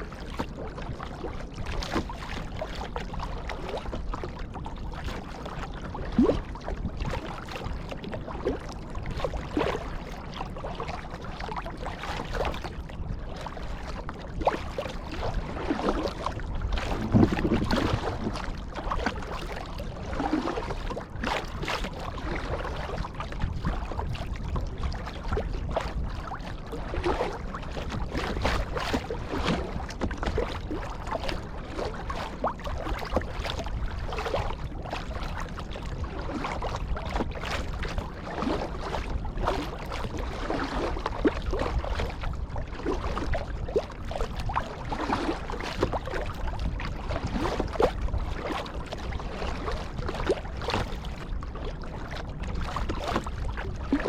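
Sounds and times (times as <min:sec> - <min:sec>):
paddle splashing and dripping: 0:00.0 - 0:54.0
water sloshing around hull: 0:00.0 - 0:54.0.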